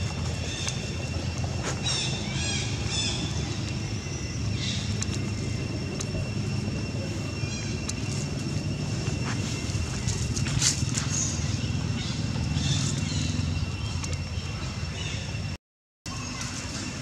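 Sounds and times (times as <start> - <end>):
steady low rumble: 0.0 - 15.6.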